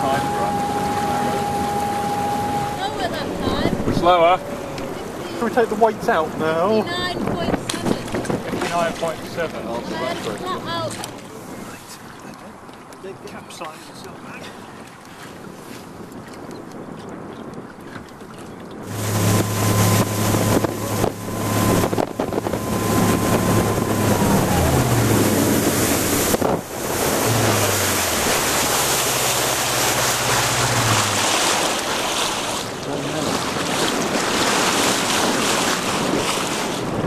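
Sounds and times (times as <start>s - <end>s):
wind buffeting microphone: 0.0s - 12.8s, 14.5s - 37.0s
boat engine humming: 0.0s - 17.0s, 17.6s - 37.0s
water rushing past boat hull: 0.0s - 37.0s.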